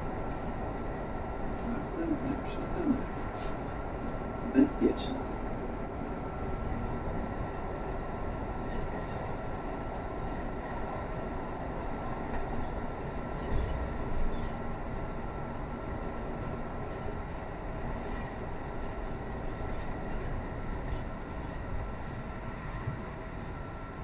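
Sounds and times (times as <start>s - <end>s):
bus engine and road rumble: 0.0s - 24.0s
faint constant whine: 0.0s - 24.0s.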